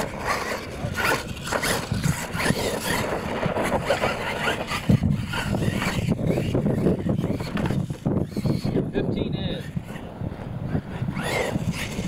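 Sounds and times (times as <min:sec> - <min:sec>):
toy truck motor running: 0:00.0 - 0:10.1, 0:10.7 - 0:12.0
tires churning loose dirt: 0:00.0 - 0:12.0.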